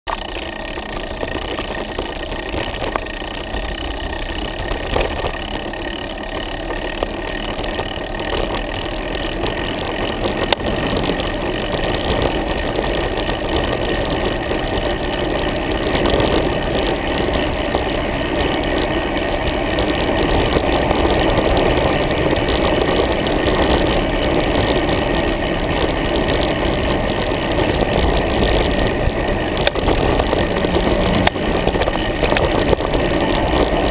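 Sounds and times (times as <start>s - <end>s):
wind and road noise rushing: 0.1s - 33.9s.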